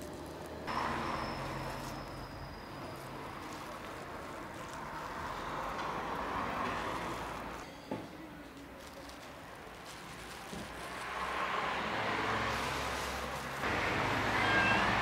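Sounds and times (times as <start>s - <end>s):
street traffic rush: 0.0s - 15.0s.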